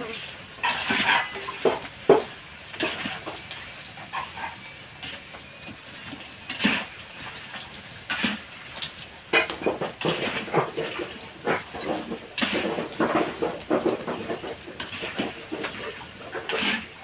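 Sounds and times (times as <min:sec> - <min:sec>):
crackers frying in hot oil: 0:00.0 - 0:17.0.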